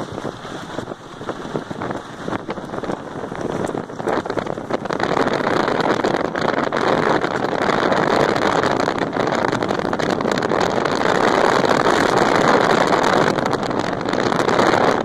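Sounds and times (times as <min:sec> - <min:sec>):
tyres rolling over gravel: 0:00.0 - 0:15.0
wind rushing on microphone: 0:00.0 - 0:15.0.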